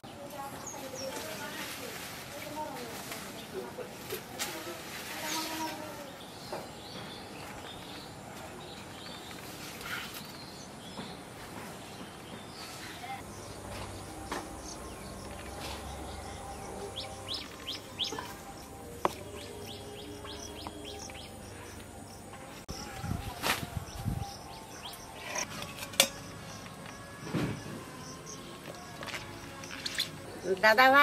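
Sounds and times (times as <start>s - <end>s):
small birds chirping: 5.2s - 25.5s, 26.2s - 31.0s.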